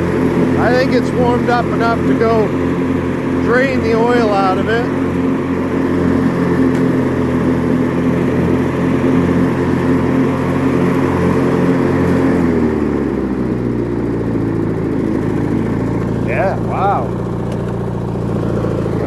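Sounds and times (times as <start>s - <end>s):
riding mower engine running: 0.0s - 19.0s.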